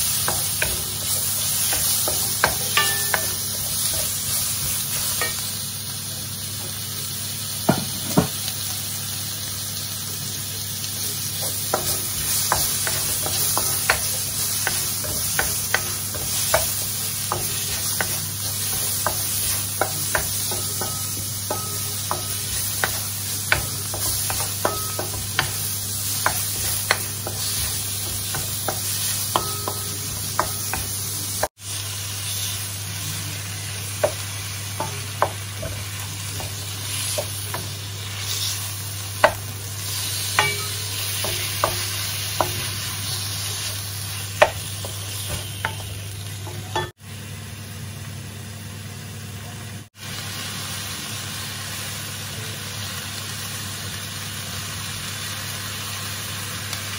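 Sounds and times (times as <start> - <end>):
food sizzling in a wok: 0.0 - 56.9.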